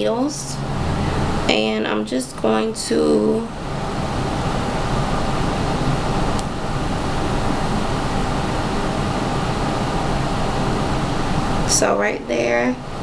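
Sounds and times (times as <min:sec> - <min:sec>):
air conditioning hum and hiss: 0:00.0 - 0:13.0.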